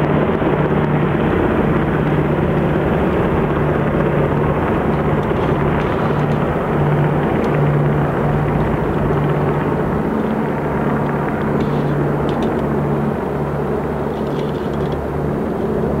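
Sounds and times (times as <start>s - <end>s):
helicopters flying overhead: 0.0s - 16.0s.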